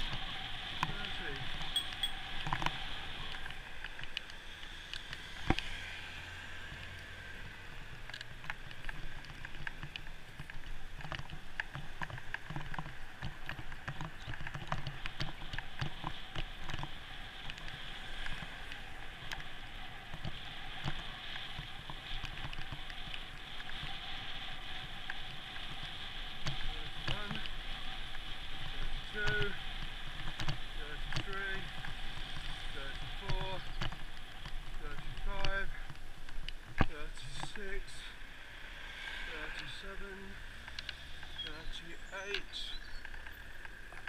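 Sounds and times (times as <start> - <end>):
small rattles and clicks: 0.0 - 5.8, 6.7 - 38.2
wind and rolling noise: 0.0 - 44.0.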